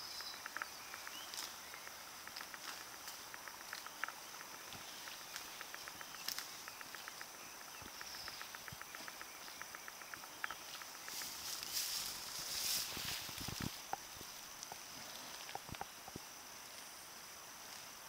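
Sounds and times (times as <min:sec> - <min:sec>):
insects buzzing: 0:00.0 - 0:18.0
rapid ticking insect chirps: 0:00.0 - 0:18.0.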